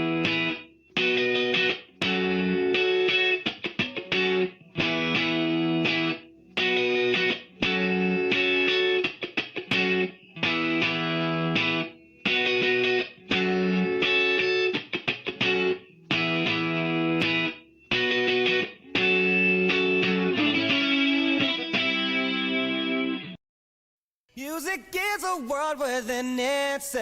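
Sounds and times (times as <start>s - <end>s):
distorted electric guitar riff: 0.0s - 23.4s.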